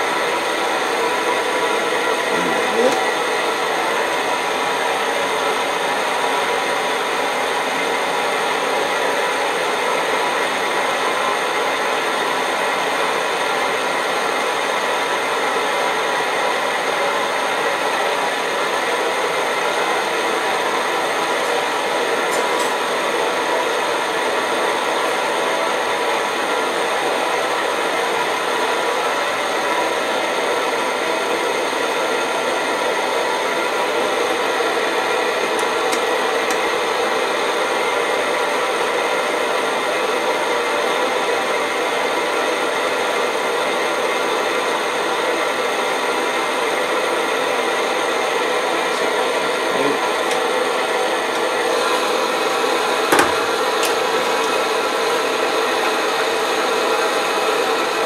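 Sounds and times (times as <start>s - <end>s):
paraffin stove burner roaring: 0.0s - 58.0s.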